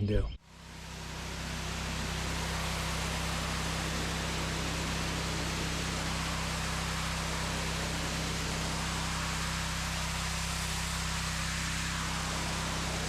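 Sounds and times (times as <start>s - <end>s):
pressure washer motor hum: 0.5s - 13.0s.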